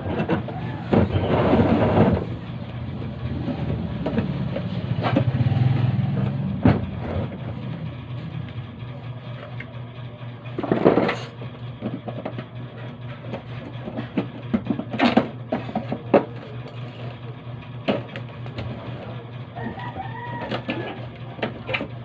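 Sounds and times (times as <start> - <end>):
tools and parts knocking and scraping: 0.0 - 2.4, 3.4 - 5.5, 6.1 - 8.6, 9.2 - 9.8, 10.5 - 22.0
steady low hum: 0.0 - 22.0.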